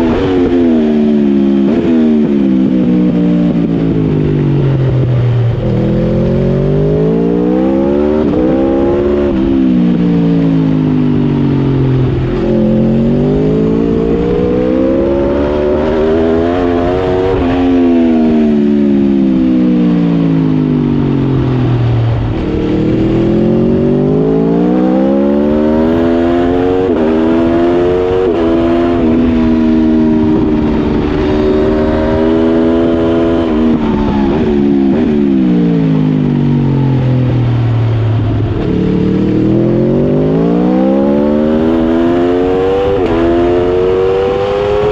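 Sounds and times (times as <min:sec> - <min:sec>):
motorcycle engine revving and shifting: 0:00.0 - 0:44.9.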